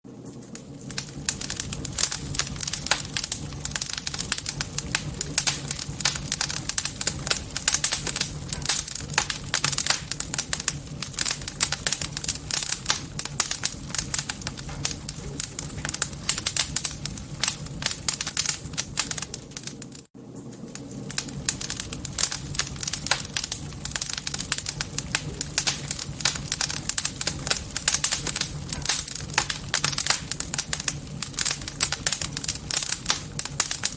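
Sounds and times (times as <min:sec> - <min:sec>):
campfire crackling and popping: 0:00.1 - 0:33.9.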